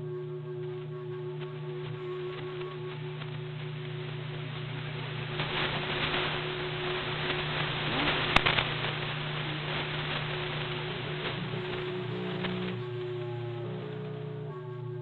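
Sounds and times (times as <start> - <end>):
crackling static: 0.0 - 15.0
low electrical hum: 0.0 - 15.0.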